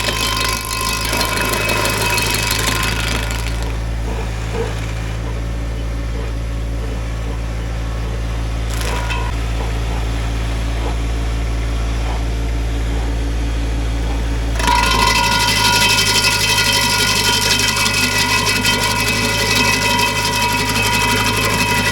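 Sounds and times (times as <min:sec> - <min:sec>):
stump grinder grinding with whine: 0:00.0 - 0:12.0, 0:12.6 - 0:21.9
tractor engine running: 0:00.0 - 0:21.9.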